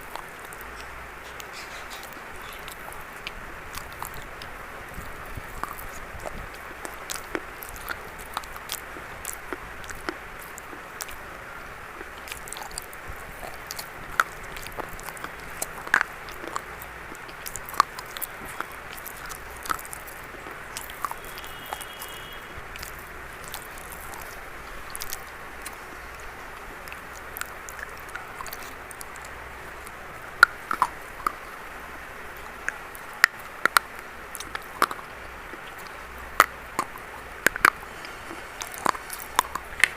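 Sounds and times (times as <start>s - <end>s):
crunchy biting and chewing: 0.0s - 39.9s
steady hiss: 0.0s - 39.9s.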